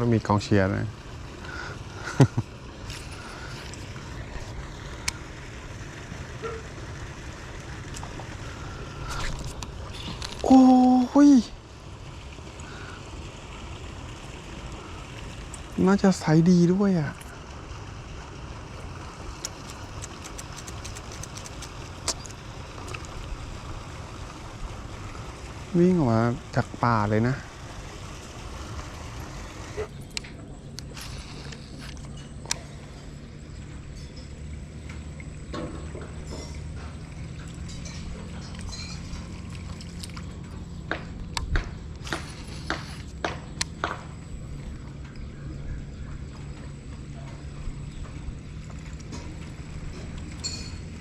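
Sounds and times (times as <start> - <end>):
steady low hum: 0.0 - 51.0
steady low rumble: 0.0 - 51.0
water sloshing and dripping: 0.0 - 51.0.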